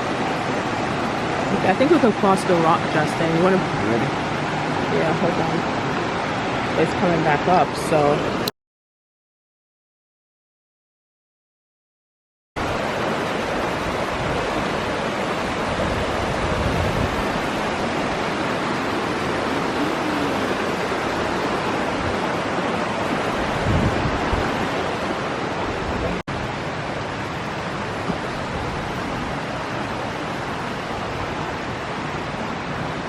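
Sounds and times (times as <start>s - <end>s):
water rushing over rocks: 0.0s - 8.5s, 12.6s - 33.0s.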